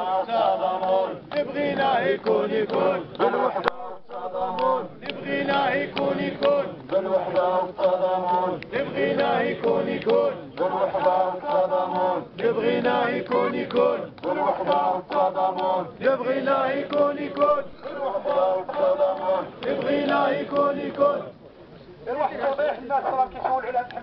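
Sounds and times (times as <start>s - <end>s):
crowd of men chanting: 0.0s - 21.4s.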